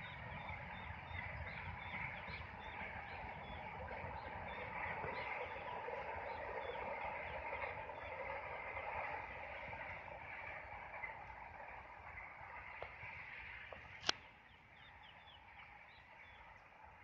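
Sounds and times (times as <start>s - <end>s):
low outdoor rumble and hiss: 0.0s - 17.0s.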